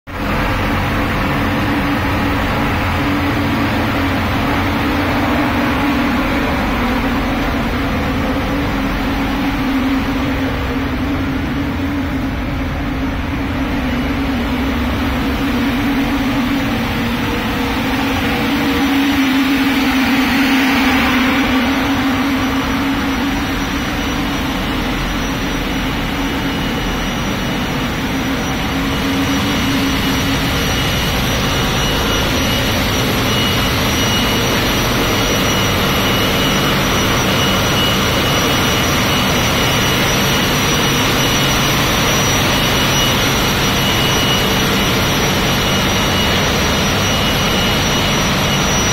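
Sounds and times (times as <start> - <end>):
engine room machinery hum: 0.0 - 48.9
strong low drone: 0.1 - 48.9
thin high whine: 0.1 - 48.9.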